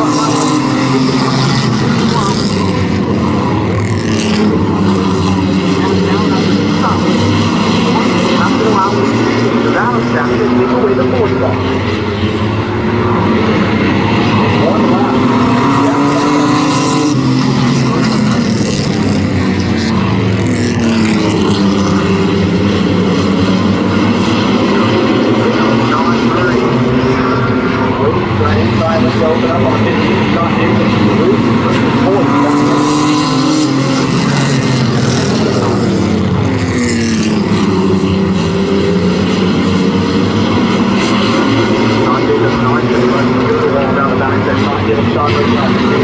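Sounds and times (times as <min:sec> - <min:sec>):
racing truck engines: 0:00.0 - 0:46.0.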